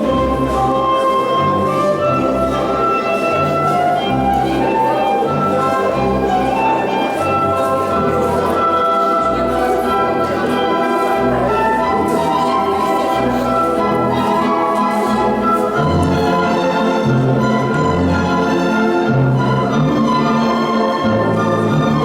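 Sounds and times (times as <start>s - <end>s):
orchestral dance music: 0.0s - 22.0s.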